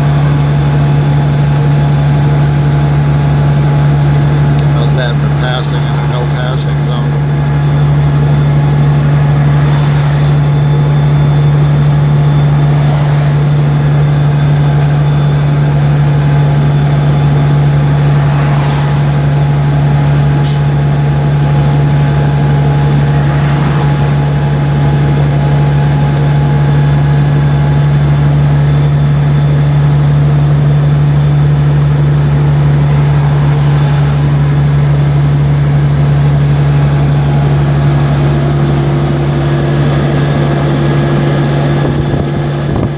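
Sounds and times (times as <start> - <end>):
vehicle engine and tyre drone: 0.0 - 42.9.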